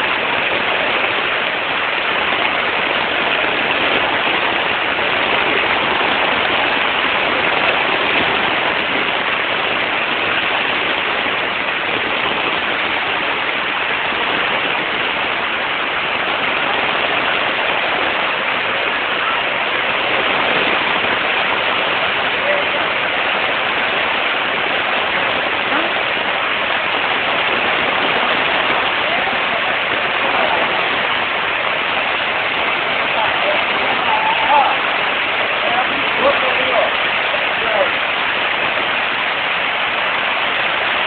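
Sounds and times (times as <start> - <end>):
rushing water pouring down: 0.0 - 41.0.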